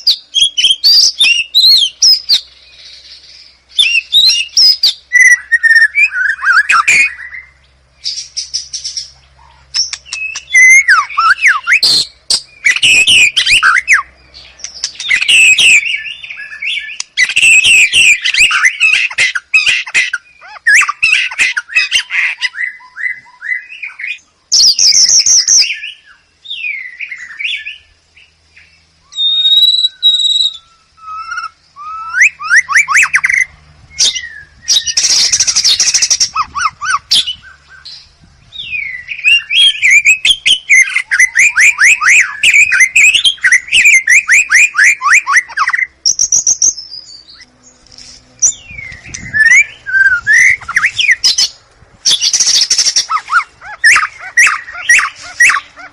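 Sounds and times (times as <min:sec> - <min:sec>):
bird singing varied song: 0:00.0 - 0:55.9.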